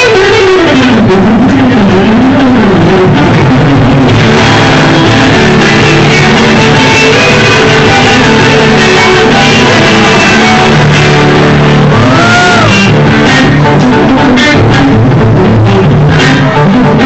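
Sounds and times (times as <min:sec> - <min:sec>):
live rock music with guitar: 0:00.0 - 0:17.0.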